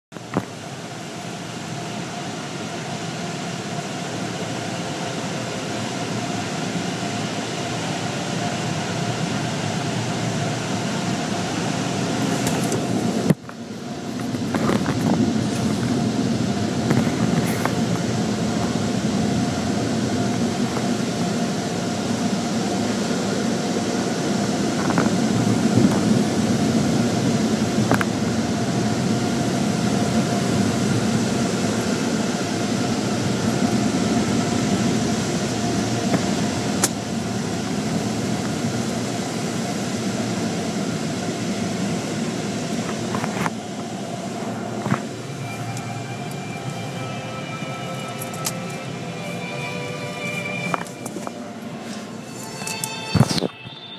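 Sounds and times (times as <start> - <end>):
car wash machinery running: 0.1 - 53.4.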